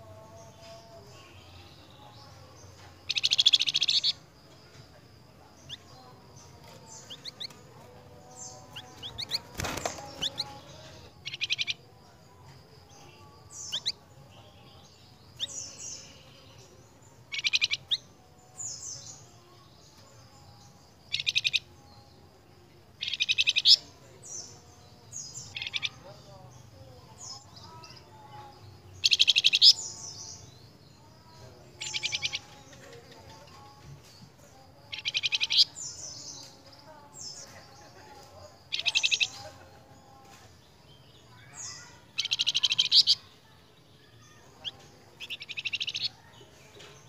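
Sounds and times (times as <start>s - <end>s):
songbird trills and chirps: 0.0s - 47.0s.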